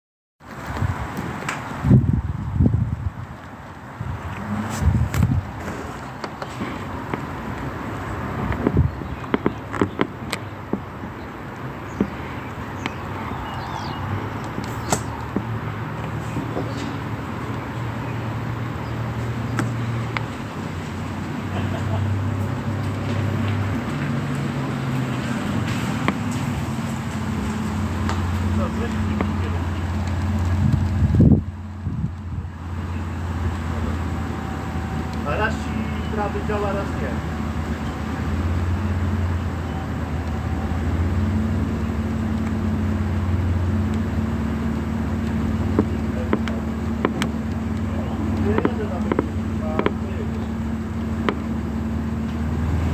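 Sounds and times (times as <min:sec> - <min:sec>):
road and vehicle noise: 0:00.4 - 0:52.9
low engine hum: 0:00.5 - 0:52.9.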